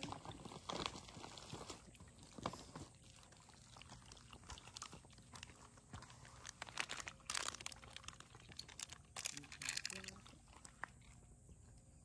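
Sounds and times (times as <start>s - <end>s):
cat lapping milk: 0.1s - 9.2s, 9.9s - 12.0s.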